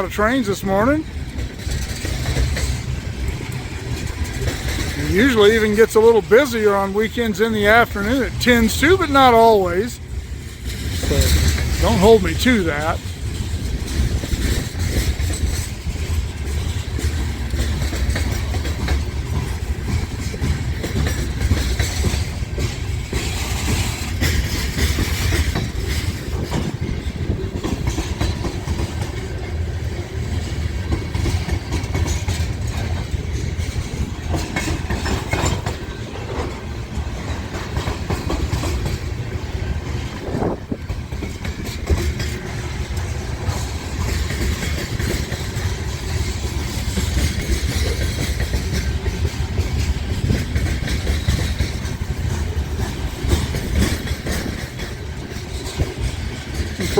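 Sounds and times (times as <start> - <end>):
freight train rumble: 0.0 - 56.9
wheels clicking over rail joints: 0.0 - 56.9.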